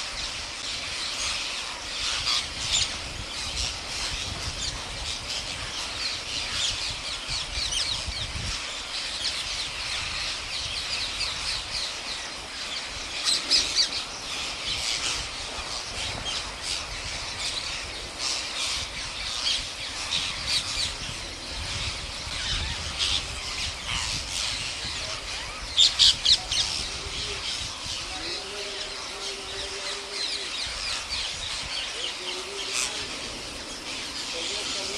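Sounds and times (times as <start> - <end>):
flock of parrots squawking: 0.0 - 34.9.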